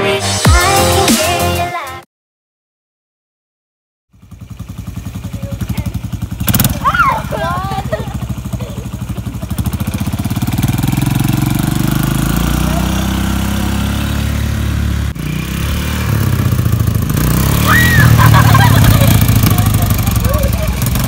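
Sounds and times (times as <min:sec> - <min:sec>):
atv engine running: 0:04.1 - 0:21.0.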